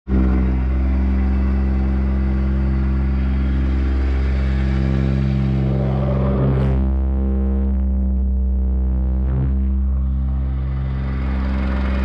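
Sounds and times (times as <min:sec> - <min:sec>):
plate compactor engine drone: 0:00.1 - 0:12.0.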